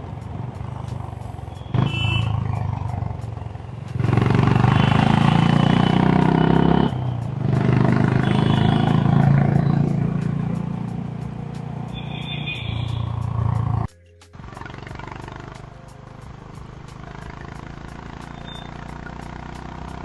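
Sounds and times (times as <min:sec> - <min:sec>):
motorcycle engine and exhaust: 0:00.0 - 0:20.0.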